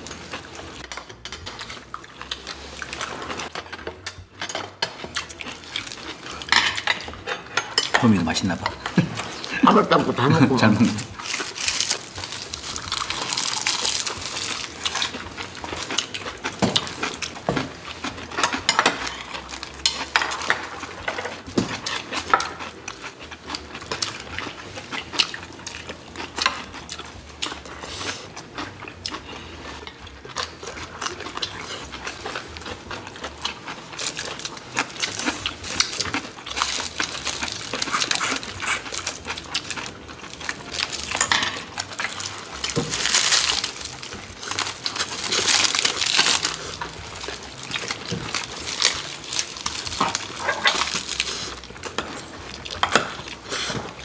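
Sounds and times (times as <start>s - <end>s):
wet chewing and slurping: 0.0s - 4.0s, 4.6s - 54.0s
chopsticks clinking on dishes: 0.0s - 27.1s, 29.7s - 51.2s.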